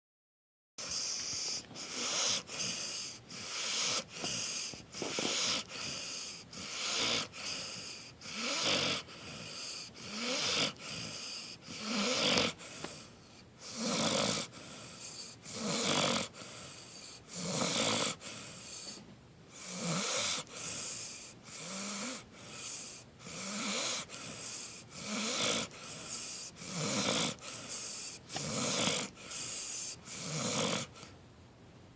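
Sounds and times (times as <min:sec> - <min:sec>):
rasping snores: 0:00.8 - 0:31.1.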